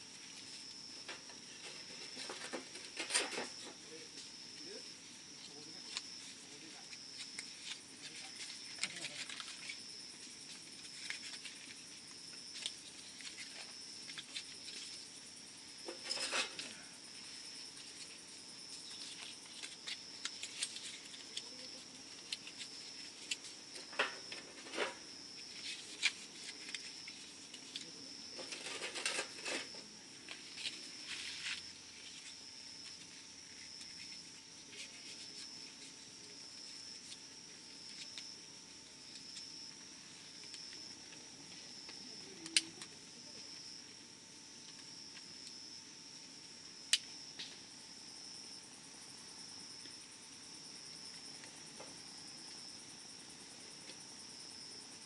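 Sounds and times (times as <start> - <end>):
small wood fire crackling: 0.0 - 55.0.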